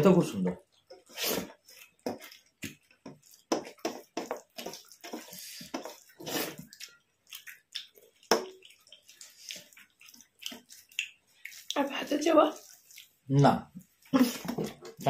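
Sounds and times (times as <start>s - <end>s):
wet chewing and lip smacks: 0.7s - 14.2s.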